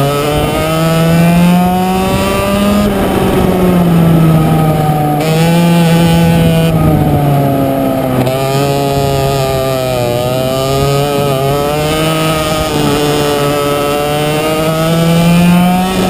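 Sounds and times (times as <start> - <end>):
kart engine at speed: 0.0 - 16.0.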